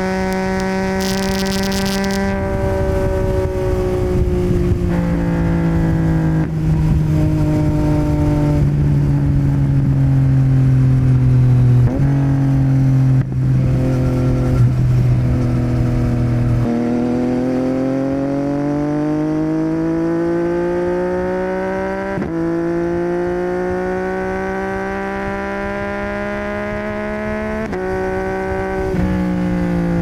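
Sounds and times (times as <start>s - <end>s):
motorcycle engine under way: 0.0s - 30.0s.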